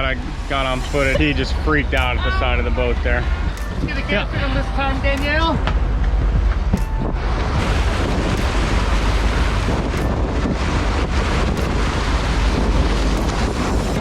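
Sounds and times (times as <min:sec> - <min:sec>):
sea water rushing: 0:00.0 - 0:14.0
wind buffeting microphone: 0:00.0 - 0:14.0.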